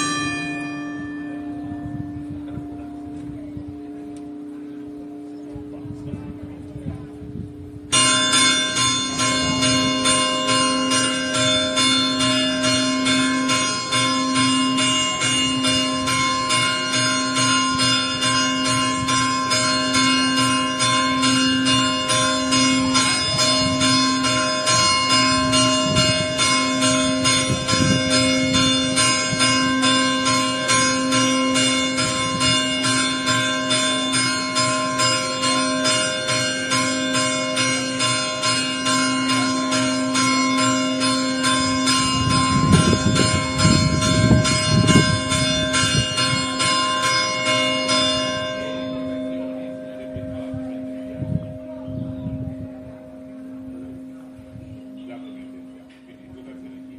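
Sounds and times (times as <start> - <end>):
church bell chiming: 0.0 - 56.9.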